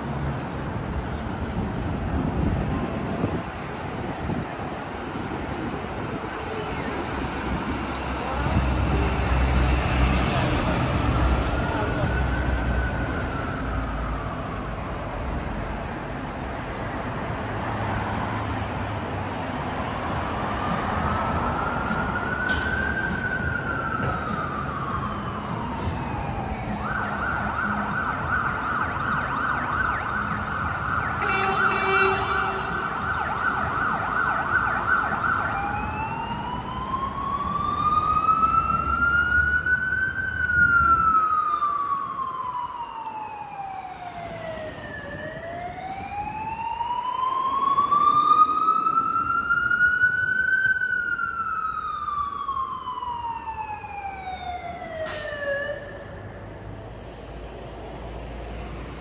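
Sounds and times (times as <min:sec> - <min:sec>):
emergency vehicle siren: 0:00.0 - 0:59.0
traffic rumble: 0:00.0 - 0:59.0.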